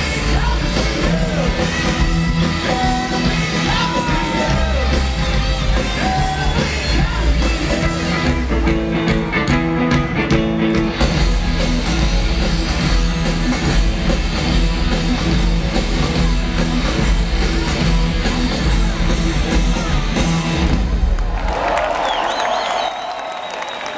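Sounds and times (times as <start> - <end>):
live punk rock band: 0.0 - 21.1.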